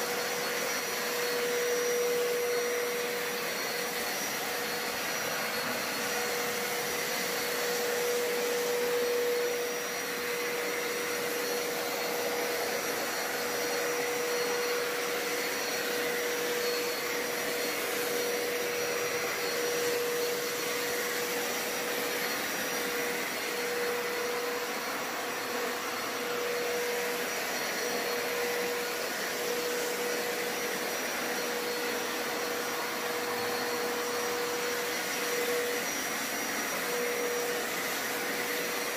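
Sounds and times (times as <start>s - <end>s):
carpet cleaner motor whirring: 0.0s - 38.9s.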